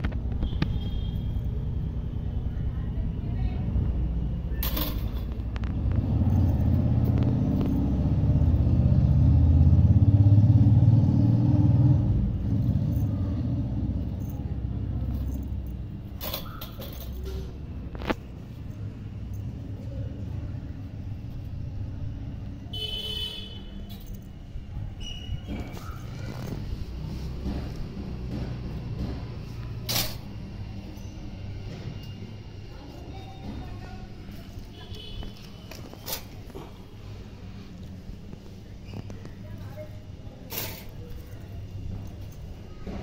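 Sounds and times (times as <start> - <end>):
motor vehicle engine rumble: 0.0 - 43.0.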